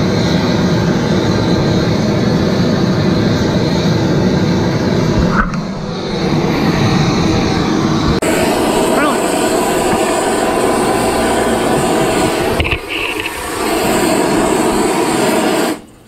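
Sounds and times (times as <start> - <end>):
blowtorch hissing: 0.0 - 16.0.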